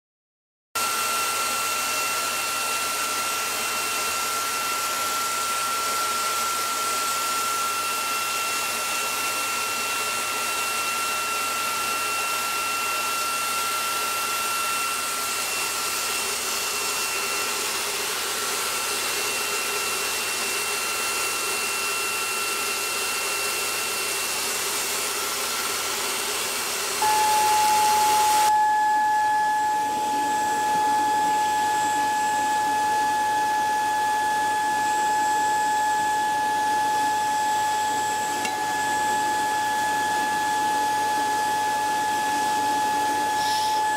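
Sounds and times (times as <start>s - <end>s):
vacuum cleaner running: 0.8s - 43.9s.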